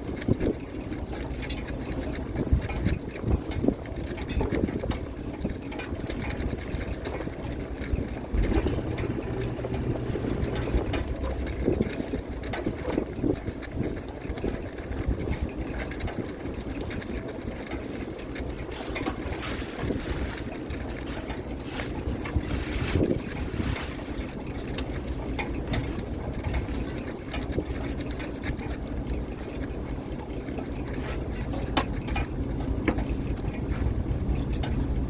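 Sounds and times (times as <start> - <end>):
boat engine and deck machinery: 0.0 - 35.0.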